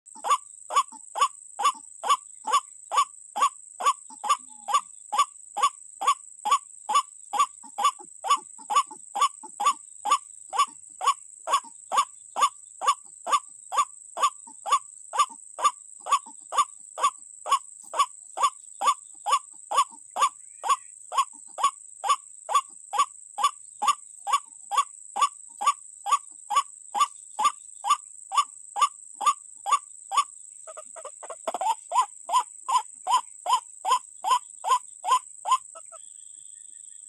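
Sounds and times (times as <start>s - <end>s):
waterhen calling kwak: 0.1s - 36.1s.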